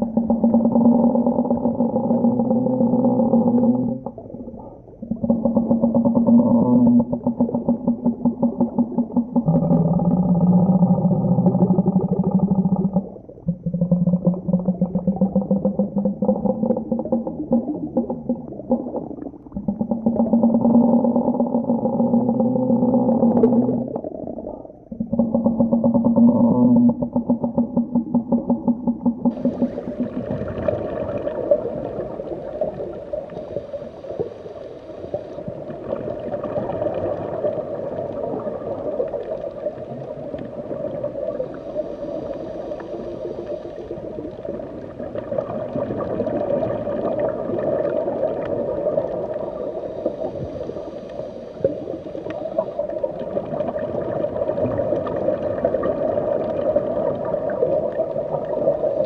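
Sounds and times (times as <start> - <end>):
underwater water gurgling: 0.0 - 59.0.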